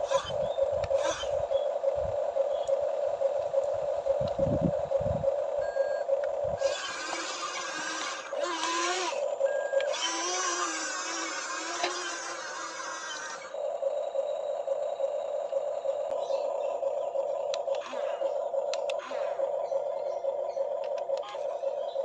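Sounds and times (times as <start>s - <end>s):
small electric motors whining: 0.0s - 22.0s.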